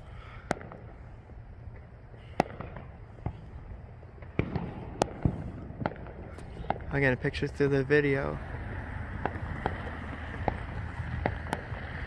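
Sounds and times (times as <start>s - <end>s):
low background rumble: 0.0s - 12.0s
fireworks bangs and pops: 0.4s - 12.0s.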